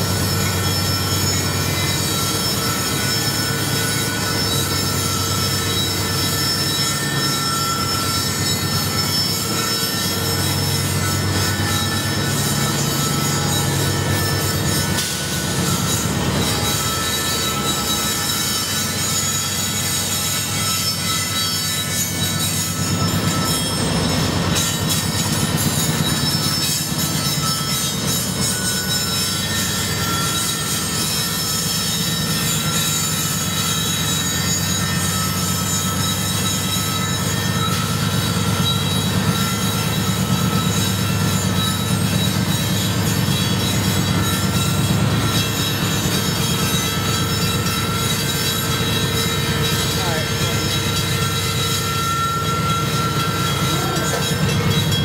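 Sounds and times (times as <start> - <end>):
diesel locomotives droning: 0.0 - 55.0
steel wheels squealing on rail: 0.0 - 55.0.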